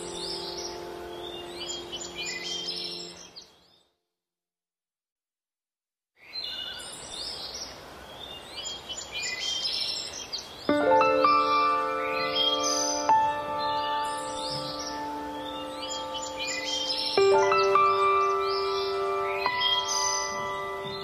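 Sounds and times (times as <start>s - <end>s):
steady outdoor hiss: 0.0s - 3.6s, 6.2s - 21.0s
small birds chirping: 0.0s - 4.0s, 6.2s - 21.0s.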